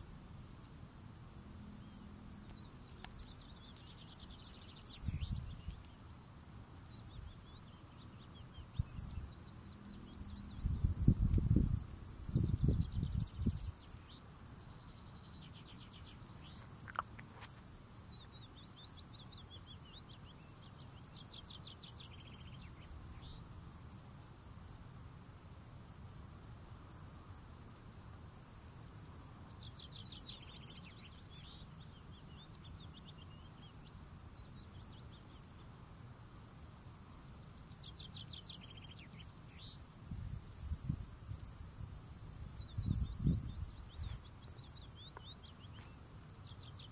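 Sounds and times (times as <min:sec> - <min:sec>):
cricket chirping: 0:00.0 - 0:46.9.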